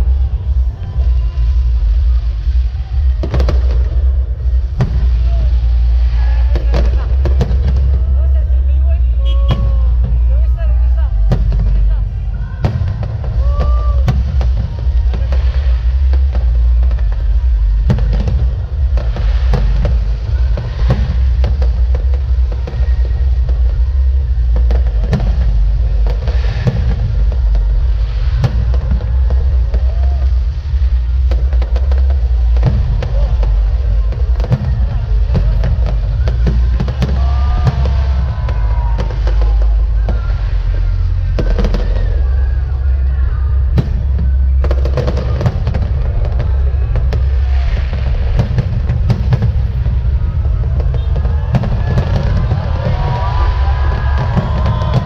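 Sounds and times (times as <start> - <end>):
firework bangs and crackles: 0.0 - 55.0
low rumble: 0.0 - 55.0.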